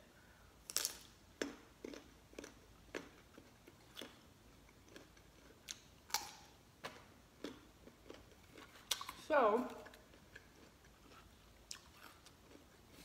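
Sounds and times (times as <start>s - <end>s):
person crunching raw carrot: 0.6s - 4.2s, 4.8s - 13.0s.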